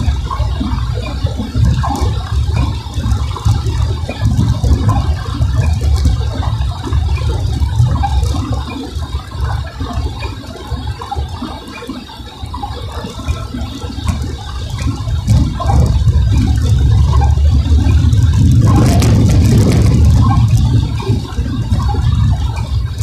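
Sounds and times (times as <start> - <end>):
road and engine rumble: 0.0 - 23.0
water noise from tyres and rain: 0.0 - 23.0.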